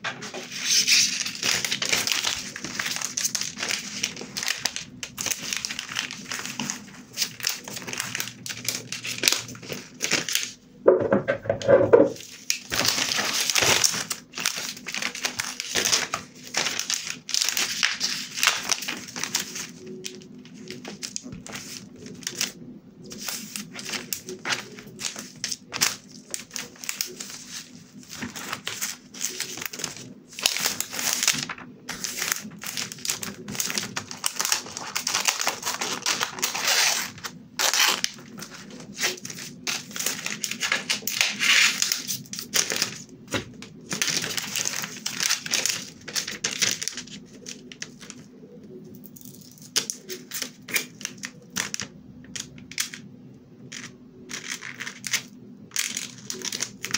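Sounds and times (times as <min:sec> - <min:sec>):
plastic film crinkling: 0:00.2 - 0:10.6, 0:11.6 - 0:53.0, 0:53.7 - 0:56.9.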